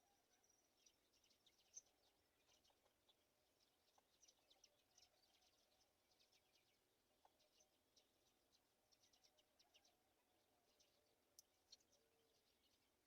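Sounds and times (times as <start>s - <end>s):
faint high-pitched bird chirps: 0.0s - 13.0s.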